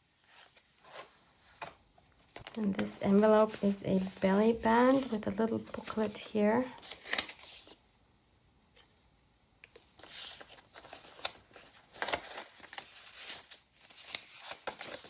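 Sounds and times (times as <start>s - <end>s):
paper rustling and sliding: 0.0s - 7.8s, 9.7s - 15.0s.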